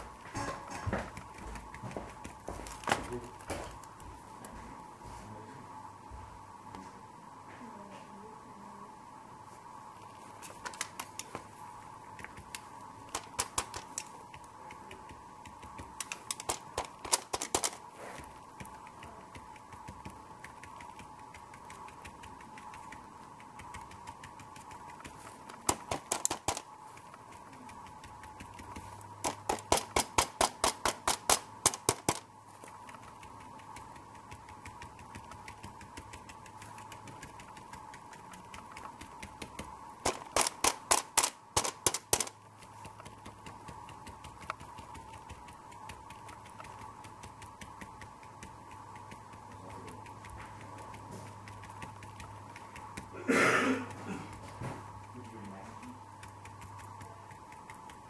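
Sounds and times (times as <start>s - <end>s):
paintbrush tapping: 0.0s - 4.6s, 10.0s - 58.0s
faint steady hum: 0.0s - 58.0s.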